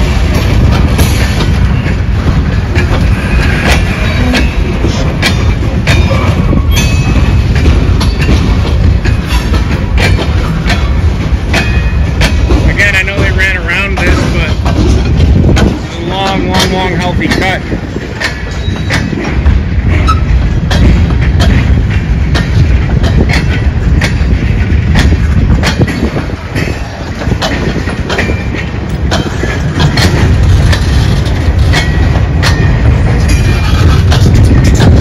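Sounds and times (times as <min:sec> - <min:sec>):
freight train rumbling past: 0:00.0 - 0:35.0
wheels clanking over rail joints: 0:00.0 - 0:35.0.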